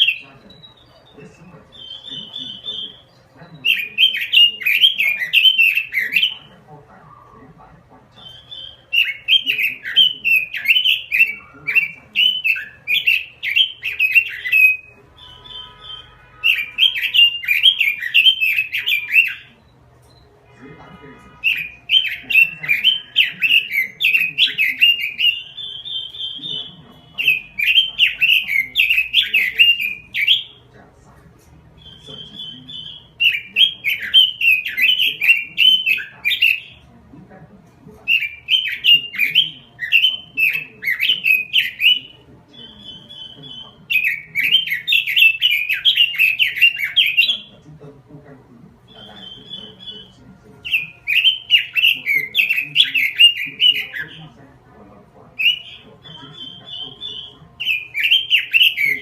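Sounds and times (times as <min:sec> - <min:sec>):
bird singing warbling notes: 0:00.0 - 0:59.0.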